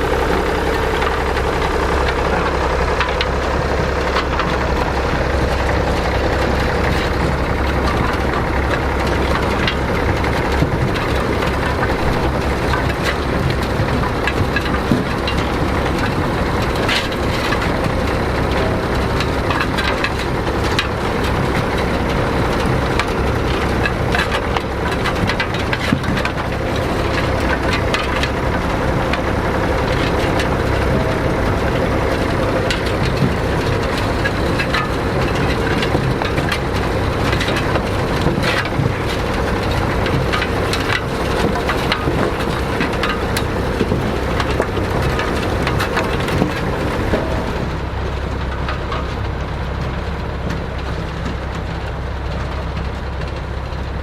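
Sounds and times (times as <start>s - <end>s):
harvester clatter and crunching: 0.0s - 54.0s
tractor engine running: 0.0s - 54.0s.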